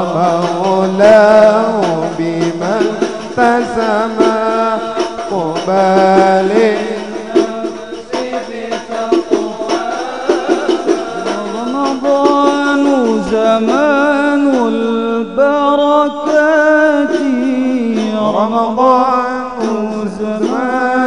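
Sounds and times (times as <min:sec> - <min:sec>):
frame drums beating: 0:00.0 - 0:15.0, 0:15.9 - 0:21.0
wavering wordless melody: 0:00.0 - 0:21.0.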